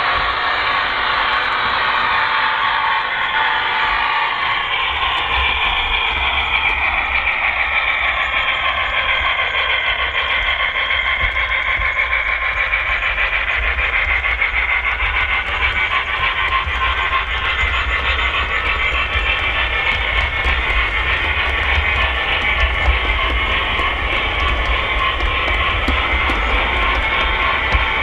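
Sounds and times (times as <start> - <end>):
model train rolling over track: 0.0 - 28.0.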